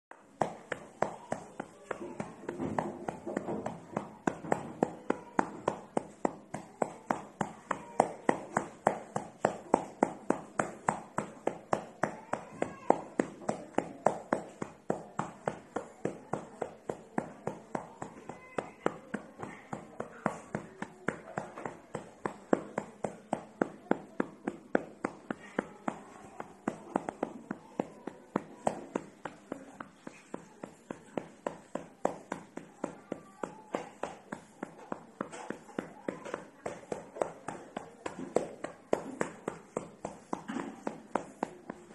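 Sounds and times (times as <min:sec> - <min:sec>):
hand patting a baby: 0:00.4 - 0:41.9.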